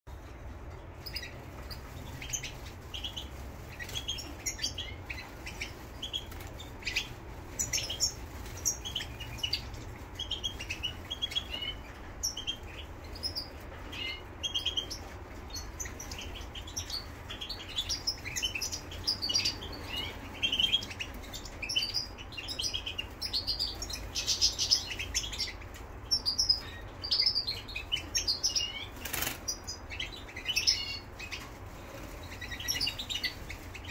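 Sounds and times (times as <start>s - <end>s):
finch twittering and chirping: 0.7s - 33.9s.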